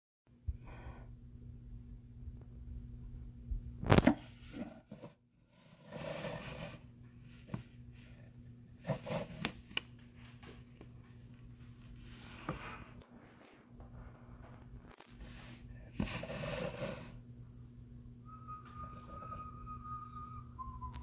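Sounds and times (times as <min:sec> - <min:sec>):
low electrical hum: 0:00.3 - 0:21.0.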